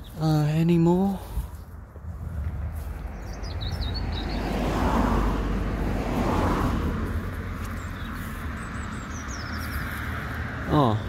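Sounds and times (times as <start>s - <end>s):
car passing: 0.7s - 11.0s.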